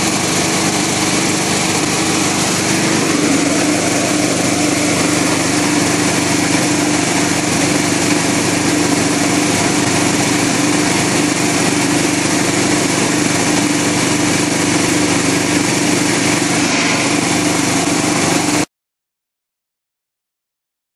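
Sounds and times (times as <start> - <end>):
production machinery motor running: 0.0 - 18.7.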